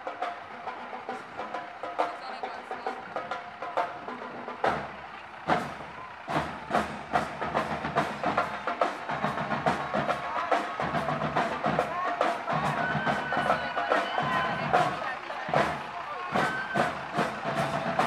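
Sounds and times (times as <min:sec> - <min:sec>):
marching drums playing: 0:00.0 - 0:18.0.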